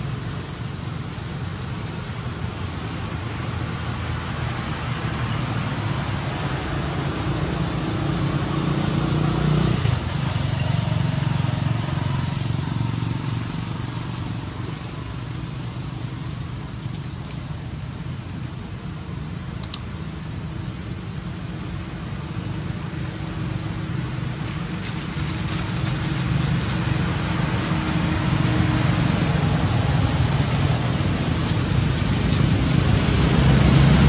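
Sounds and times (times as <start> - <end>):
high-pitched hiss: 0.0 - 34.0.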